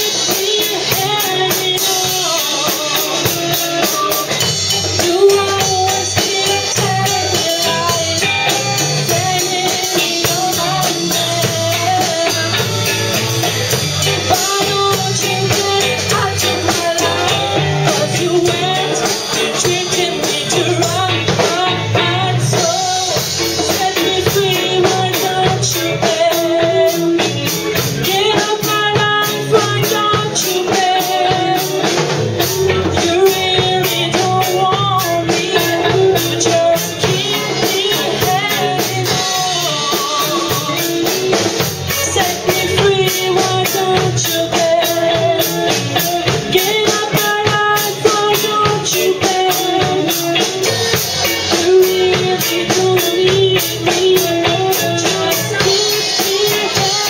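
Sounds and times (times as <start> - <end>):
live reggae band playing: 0.0 - 57.0
woman singing: 0.0 - 57.0.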